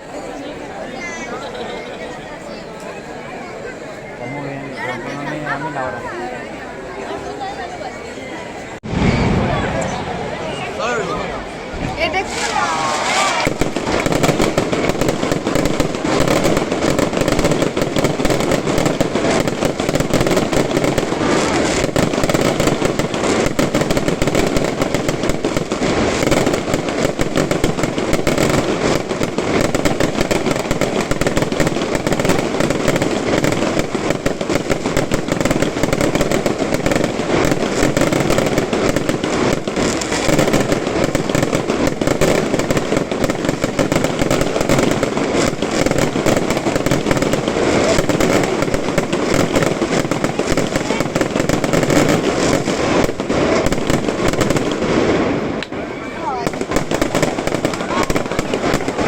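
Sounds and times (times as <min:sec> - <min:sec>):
fireworks bangs and crackles: 0:08.7 - 0:59.0.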